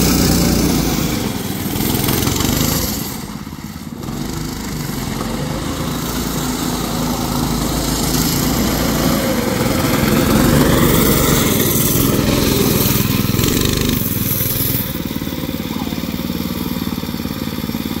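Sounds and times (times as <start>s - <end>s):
small engine running under throttle: 0.0s - 18.0s.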